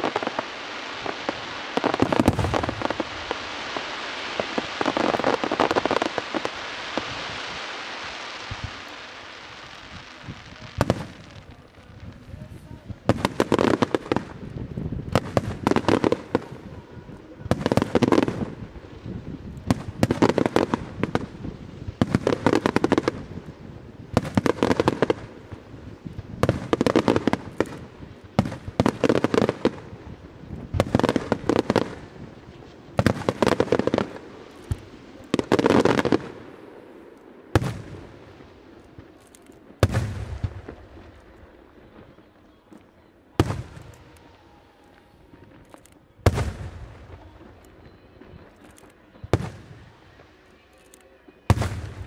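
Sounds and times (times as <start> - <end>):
fireworks crackling and bursting: 0.0 - 52.0.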